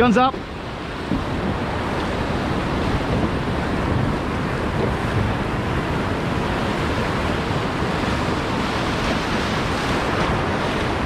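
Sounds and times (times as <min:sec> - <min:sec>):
surf breaking: 0:00.0 - 0:11.0
wind buffeting microphone: 0:00.0 - 0:11.0.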